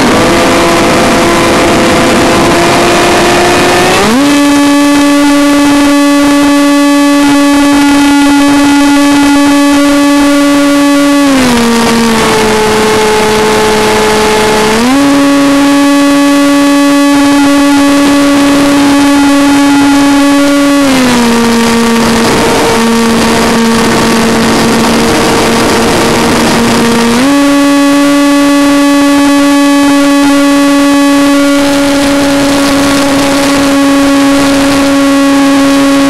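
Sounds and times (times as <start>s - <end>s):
electric motor buzzing whine: 0.0s - 36.0s.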